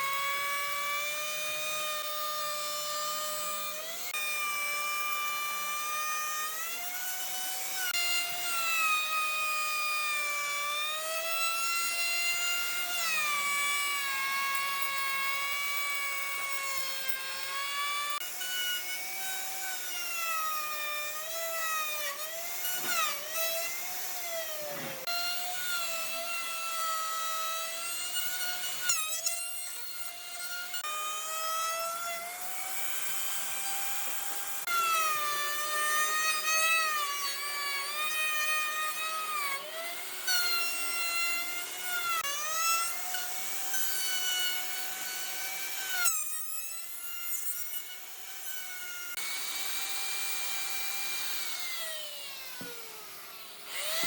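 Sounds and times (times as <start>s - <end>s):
power tool cutting wood: 0.0s - 54.0s.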